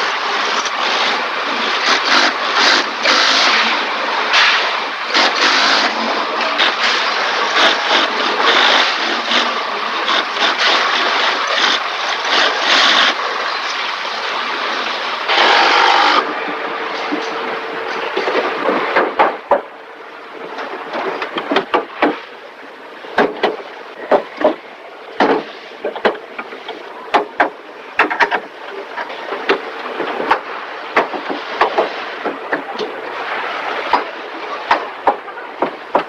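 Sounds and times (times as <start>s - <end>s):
factory background noise: 0.0s - 36.0s.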